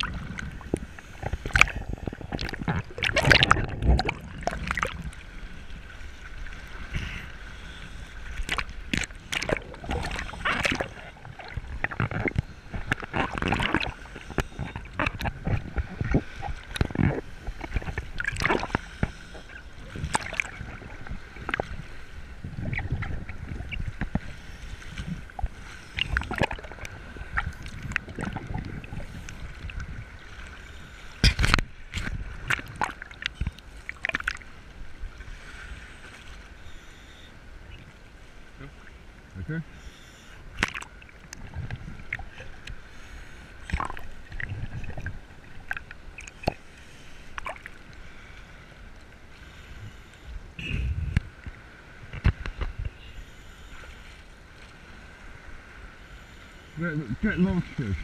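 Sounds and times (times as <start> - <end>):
surf sloshing and splashing: 0.0 - 58.0.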